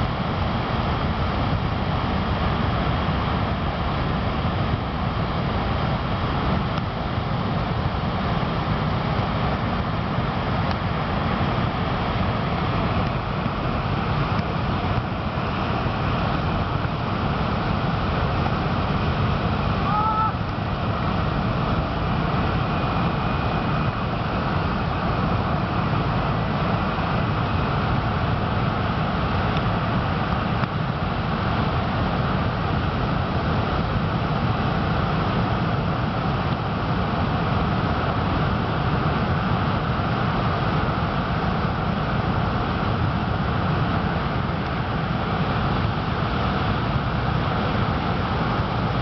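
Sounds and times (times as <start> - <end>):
rushing wind: 0.0 - 49.0
surf: 0.0 - 49.0.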